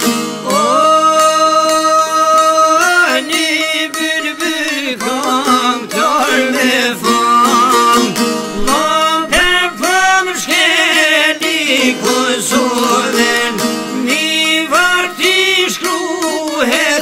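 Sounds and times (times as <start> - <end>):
folk music on plucked strings: 0.0 - 17.0.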